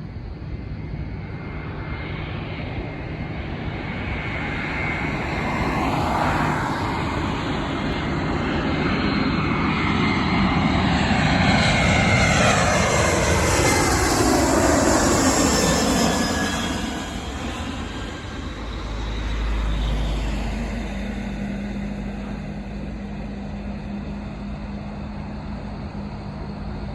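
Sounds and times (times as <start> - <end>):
jet airliner flying past: 0.0 - 26.9.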